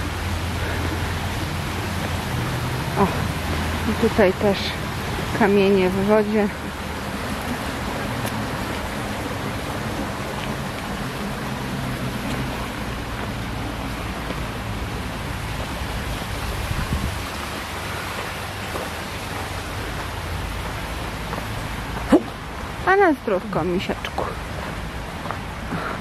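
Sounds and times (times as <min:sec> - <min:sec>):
stream running over stones: 0:00.0 - 0:26.0.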